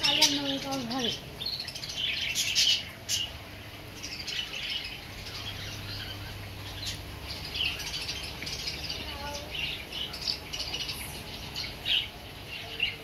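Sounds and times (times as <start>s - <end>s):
budgerigars chirping: 0.0s - 13.0s
low steady hum: 0.0s - 13.0s.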